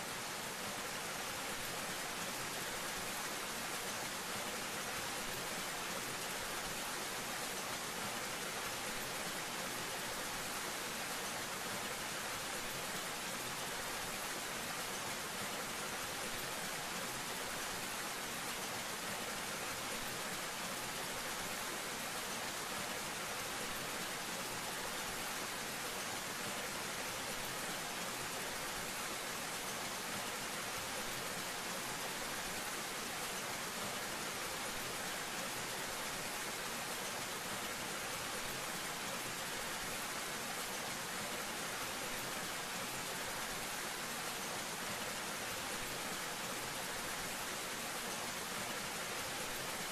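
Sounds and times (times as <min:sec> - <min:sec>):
small waterfall splashing: 0:00.0 - 0:49.9.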